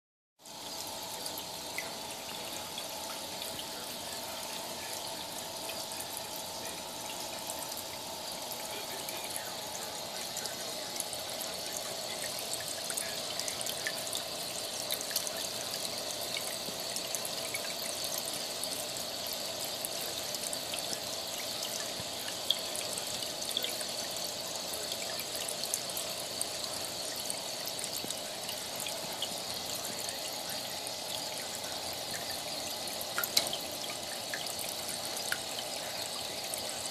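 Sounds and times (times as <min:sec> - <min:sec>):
filter outflow trickling into water: 0:00.4 - 0:36.9
small ticks and splashes: 0:00.4 - 0:36.9.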